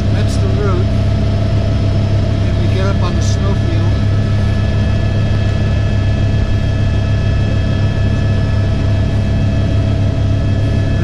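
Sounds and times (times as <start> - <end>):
helicopter rotor and engine drone: 0.0 - 11.0
steady whining tones: 0.0 - 11.0.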